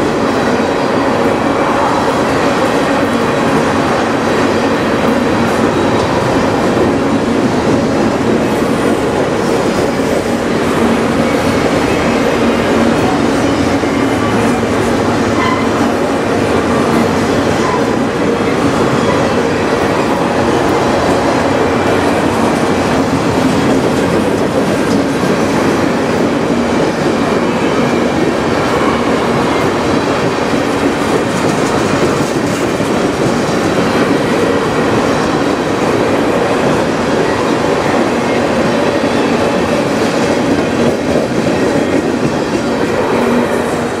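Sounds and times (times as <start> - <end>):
train wheels rolling on rails: 0.0 - 44.0.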